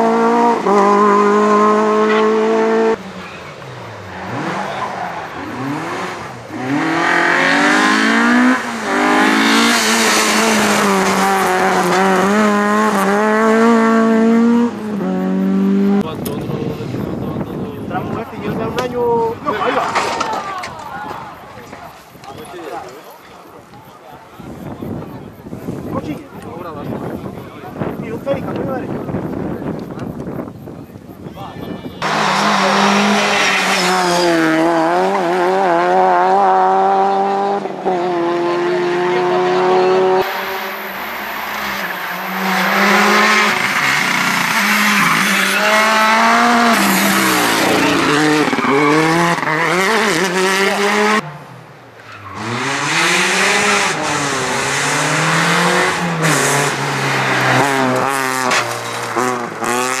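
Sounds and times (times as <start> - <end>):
rally car engines revving: 0.0 - 31.3, 31.9 - 60.0.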